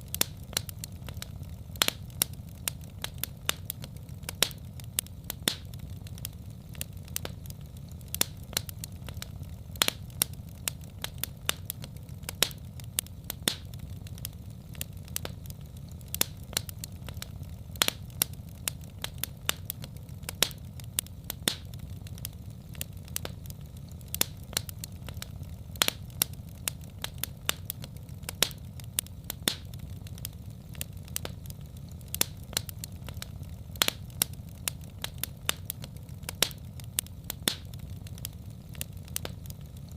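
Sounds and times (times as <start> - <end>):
low rumble of flames: 0.0 - 39.9
sharp pops and snaps: 0.0 - 39.9
wood fire crackling: 0.0 - 39.9.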